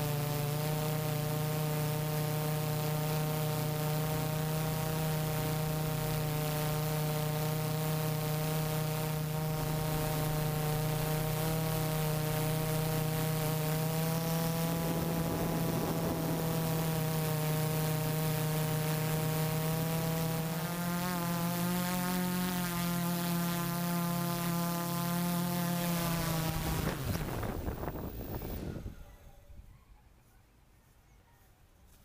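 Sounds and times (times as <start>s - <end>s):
drone propellers humming: 0.0s - 29.7s.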